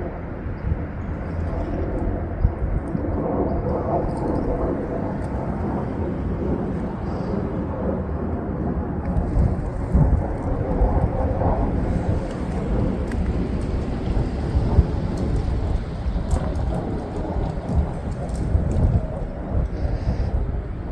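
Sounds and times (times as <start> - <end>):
wind blowing on microphone: 0.0 - 20.9.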